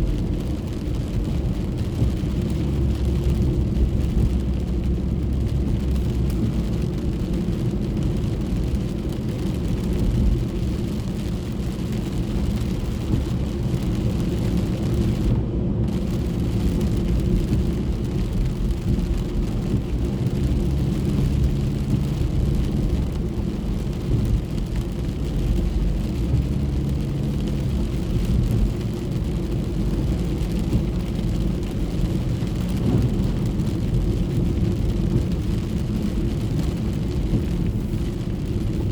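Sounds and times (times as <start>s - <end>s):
hiss of rain and spray: 0.0s - 38.9s.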